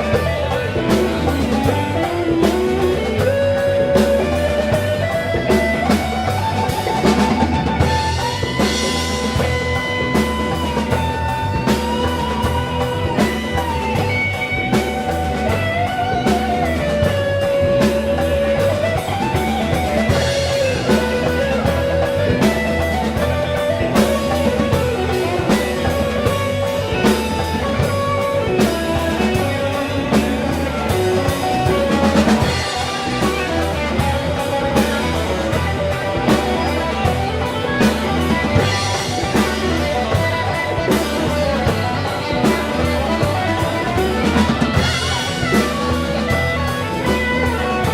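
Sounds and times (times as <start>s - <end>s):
bass low end: 0.0s - 47.9s
blues lead line with bending notes: 0.0s - 47.9s
steady drum beat: 0.0s - 47.9s.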